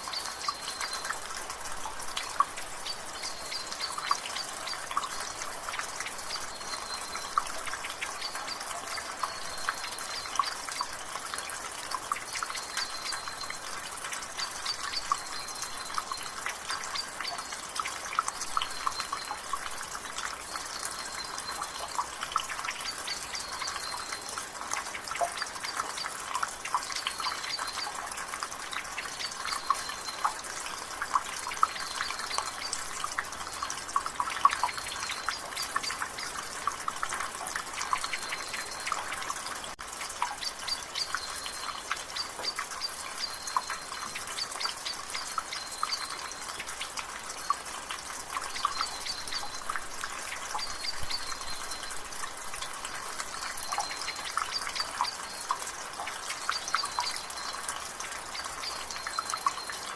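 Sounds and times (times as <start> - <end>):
rain water dripping from gutter: 0.0 - 59.9.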